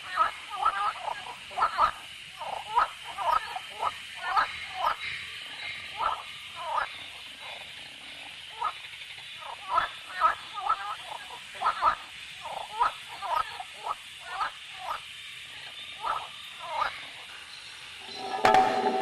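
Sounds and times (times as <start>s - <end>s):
high hiss: 0.0s - 19.0s.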